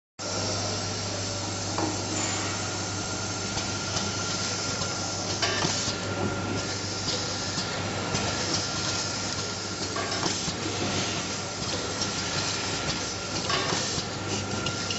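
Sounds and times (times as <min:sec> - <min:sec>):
machine humming with whine: 0:00.2 - 0:14.9.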